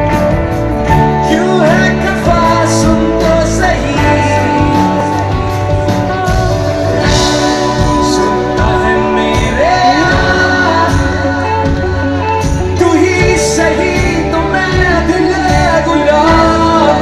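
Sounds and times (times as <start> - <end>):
live rock band playing loudly: 0.0 - 17.0
man singing: 0.0 - 17.0.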